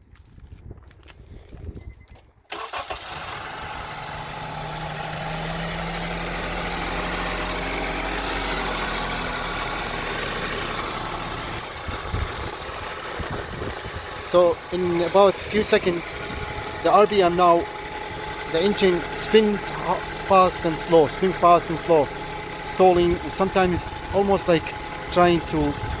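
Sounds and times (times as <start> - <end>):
car engine starting: 2.5 - 26.0
car engine idling roughly: 2.6 - 26.0.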